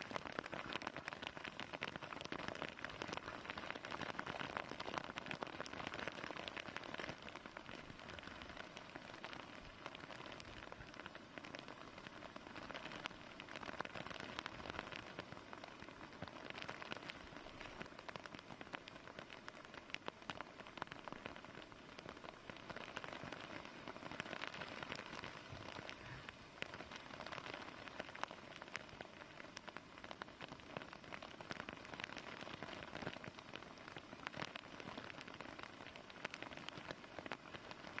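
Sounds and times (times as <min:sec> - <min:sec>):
heavy rain pouring: 0:00.0 - 0:38.0
raindrops splashing on surfaces: 0:00.0 - 0:38.0.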